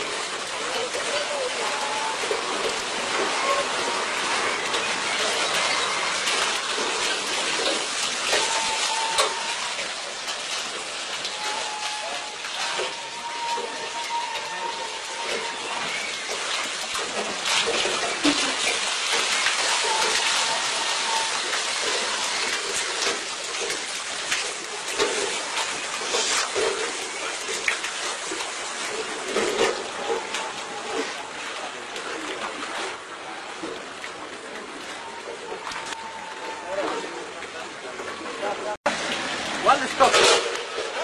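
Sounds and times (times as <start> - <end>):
water gushing and splashing: 0.0 - 41.0.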